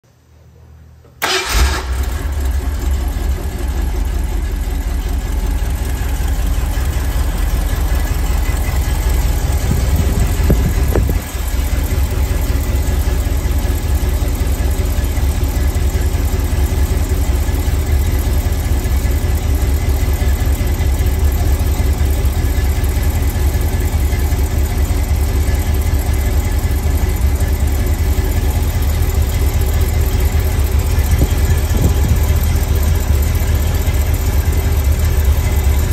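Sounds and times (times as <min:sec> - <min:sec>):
vee eight engine starting and idling: 0:01.1 - 0:35.9.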